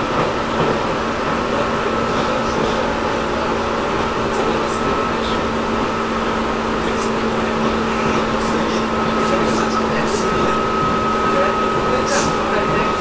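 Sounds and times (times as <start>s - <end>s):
train motors and wheels rumbling: 0.0s - 13.0s.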